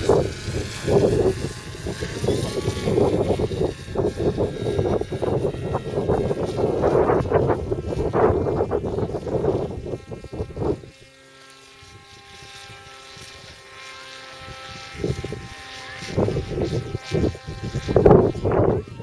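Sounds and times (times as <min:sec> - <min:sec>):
aircraft engine and propeller droning: 0:00.0 - 0:19.0.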